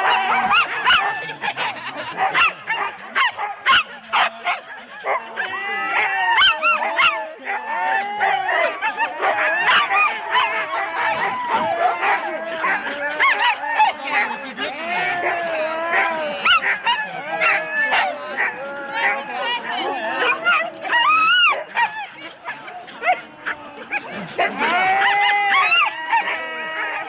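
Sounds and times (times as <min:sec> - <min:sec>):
dogs barking and yowling: 0:00.0 - 0:27.0.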